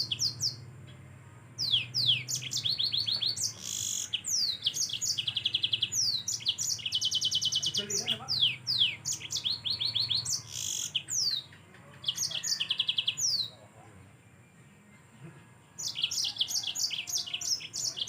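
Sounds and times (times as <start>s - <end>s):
canary singing trills: 0.0s - 18.0s.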